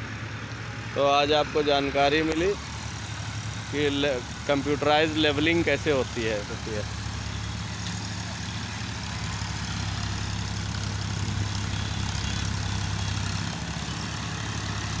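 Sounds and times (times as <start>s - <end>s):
diesel tractor engine running: 0.0s - 15.0s.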